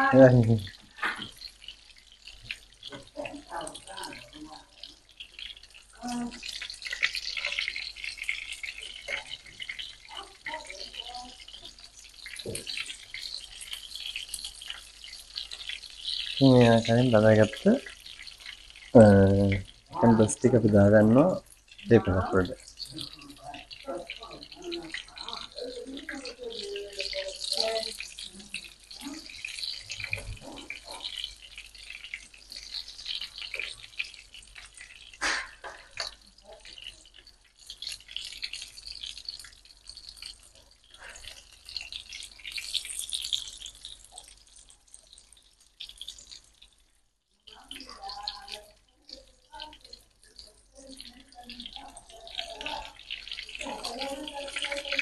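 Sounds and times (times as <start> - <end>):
chicken frying in hot oil: 0.0 - 55.0.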